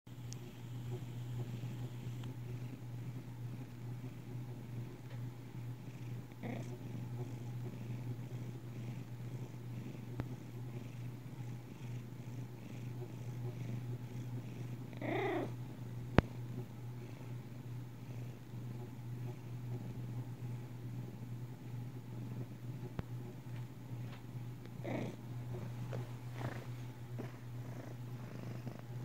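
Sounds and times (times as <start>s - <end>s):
low steady hum: 0.1s - 29.0s.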